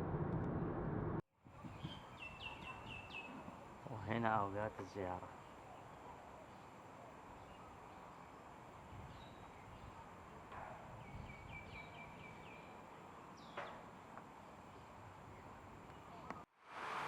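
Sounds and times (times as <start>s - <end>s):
bird chirping: 1.6s - 10.1s, 10.8s - 16.4s.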